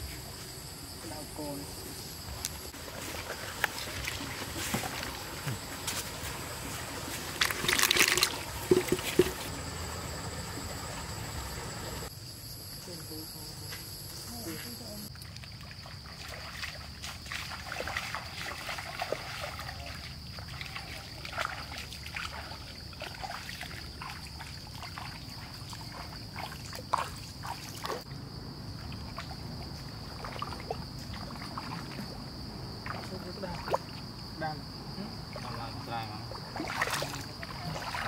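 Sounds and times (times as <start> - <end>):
water splashing and trickling: 2.2 - 12.1, 14.3 - 38.0.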